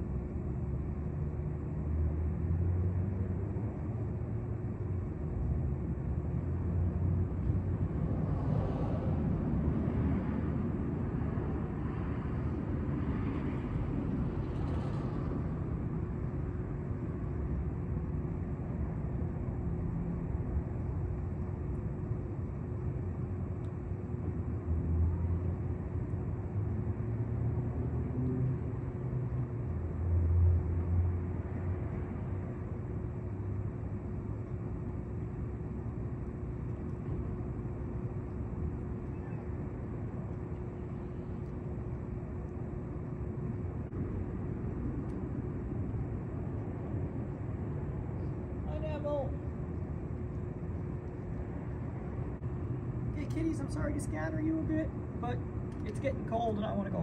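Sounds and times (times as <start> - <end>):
city traffic rumble: 0.0 - 57.0
constant hum: 0.0 - 57.0.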